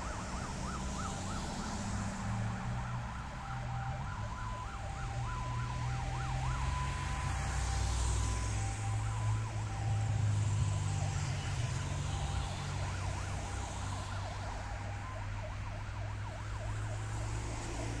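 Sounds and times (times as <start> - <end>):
fire engine sirens: 0.0 - 18.0
road traffic rumble: 0.0 - 18.0.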